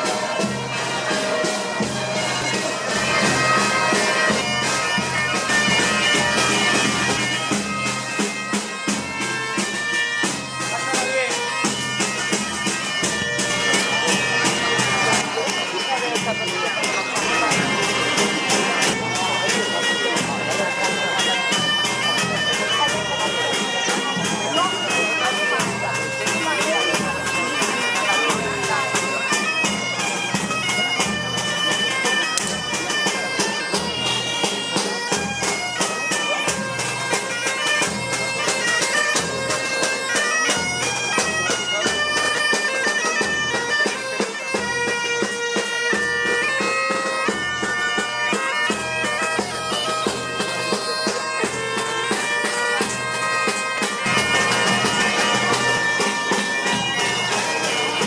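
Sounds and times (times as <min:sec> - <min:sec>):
bagpipes playing: 0:00.0 - 0:58.0.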